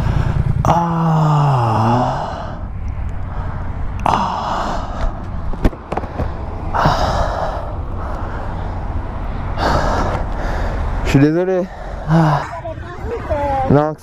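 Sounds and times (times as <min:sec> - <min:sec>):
man breathing heavily: 0:00.0 - 0:12.9
steady low rumble: 0:00.0 - 0:14.0.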